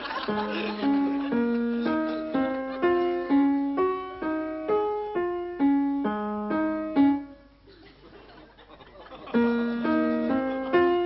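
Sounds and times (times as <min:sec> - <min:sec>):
piano melody: 0:00.0 - 0:07.6, 0:09.3 - 0:11.0.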